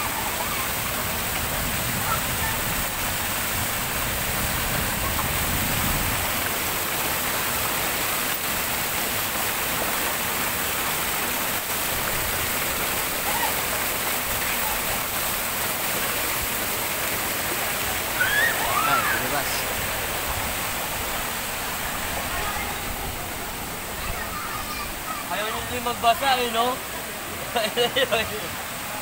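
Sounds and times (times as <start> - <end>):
water pouring into a pool: 0.0 - 25.2.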